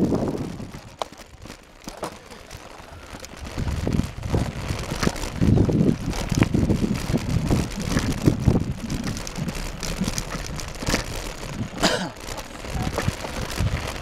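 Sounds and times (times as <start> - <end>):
wind buffeting microphone: 0.0 - 1.6, 2.3 - 14.0
bike rattling over dirt track: 0.0 - 14.0.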